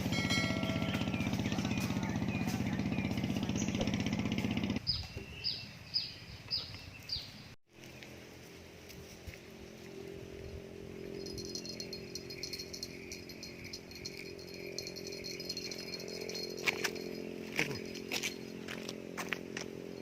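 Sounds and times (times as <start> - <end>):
small engine running: 0.0 - 4.9, 7.8 - 20.0.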